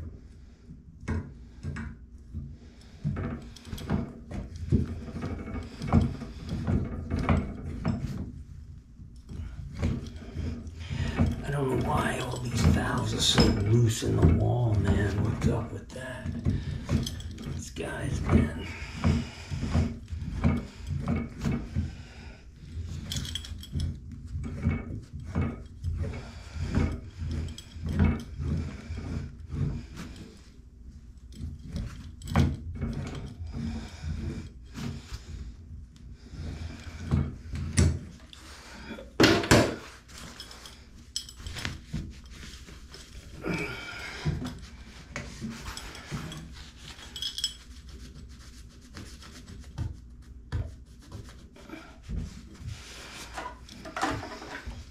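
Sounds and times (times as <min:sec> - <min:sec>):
hands rubbing and scraping pipe: 0:00.0 - 0:54.9.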